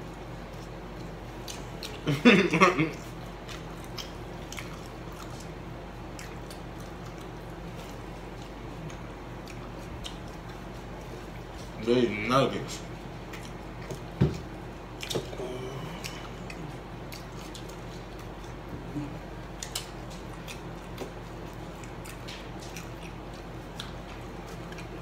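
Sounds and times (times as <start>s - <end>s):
quiet chewing: 0.0s - 11.8s, 12.8s - 25.0s
steady low hum: 0.0s - 25.0s.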